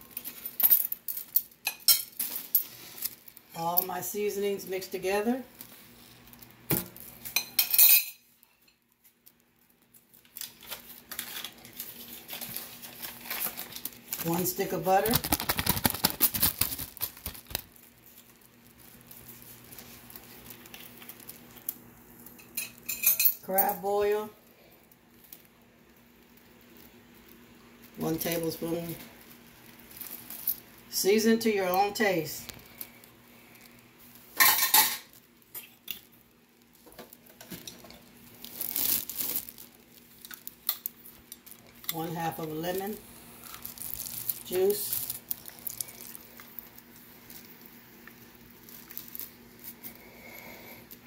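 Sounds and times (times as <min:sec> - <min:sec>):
plastic bag crinkling: 0:00.0 - 0:07.4, 0:08.4 - 0:22.4, 0:25.0 - 0:50.4.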